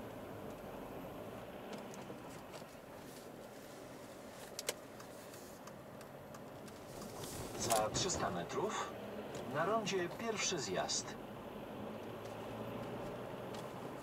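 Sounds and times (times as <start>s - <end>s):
car engine and tyre hum: 0.0s - 14.0s.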